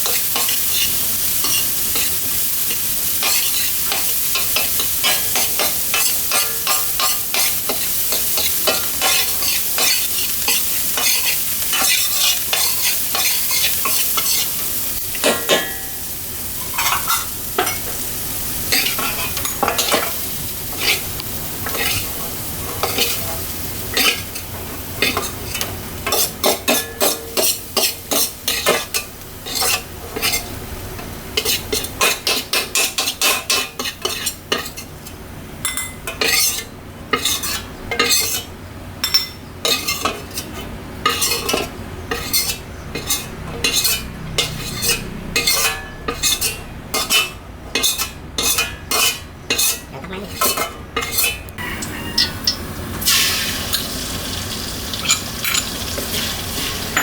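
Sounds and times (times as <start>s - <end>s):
metal spatula scraping wok: 0.0s - 18.0s, 18.7s - 30.5s, 36.2s - 38.5s, 39.6s - 53.8s, 55.0s - 57.0s
food sizzling in a wok: 0.0s - 49.9s, 51.0s - 57.0s.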